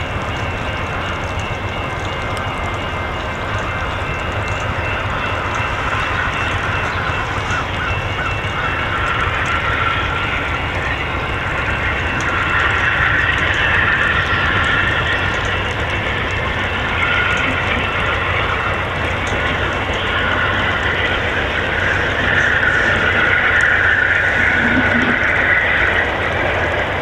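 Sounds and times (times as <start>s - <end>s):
high-pitched whine: 0.0s - 27.0s
train low rumble: 0.0s - 27.0s.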